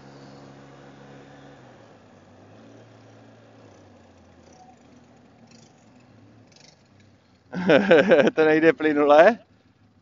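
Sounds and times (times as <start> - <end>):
quad bike engine running: 0.0 - 10.0.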